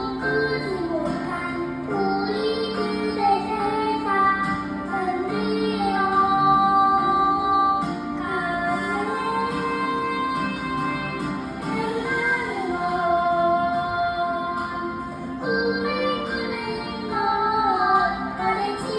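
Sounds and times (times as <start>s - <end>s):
musical accompaniment chords: 0.0s - 18.9s
young child singing: 0.0s - 18.9s.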